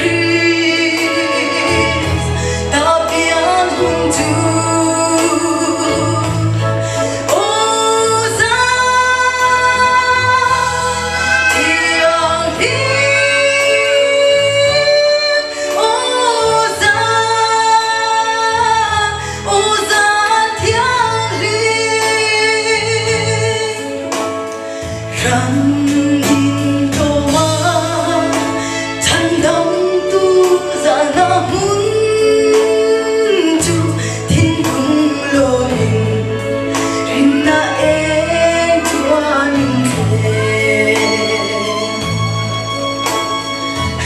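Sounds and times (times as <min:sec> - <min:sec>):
woman singing a hymn: 0:00.0 - 0:42.8
instrumental accompaniment with bass: 0:00.0 - 0:44.0.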